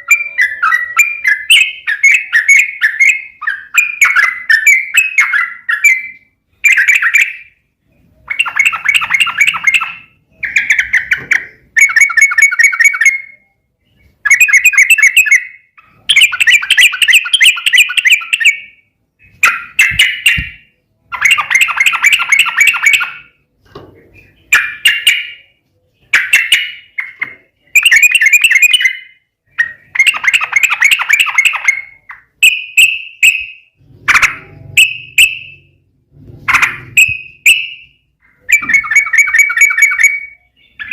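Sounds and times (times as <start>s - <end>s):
bulbul singing chattering song: 0.0s - 23.5s, 24.1s - 35.8s, 36.5s - 40.9s.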